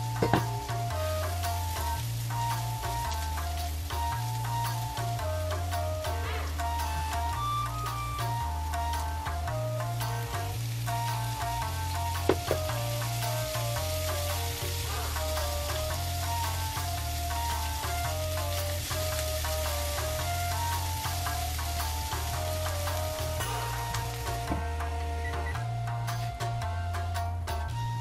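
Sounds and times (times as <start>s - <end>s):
food sizzling in a frying pan: 0.0s - 25.6s
background music with bass: 0.0s - 28.0s.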